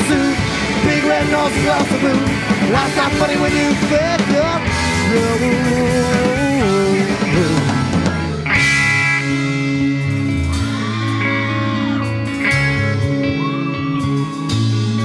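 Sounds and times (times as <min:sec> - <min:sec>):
electric guitar sustained notes: 0:00.0 - 0:15.0
rock band playing live: 0:00.0 - 0:15.0.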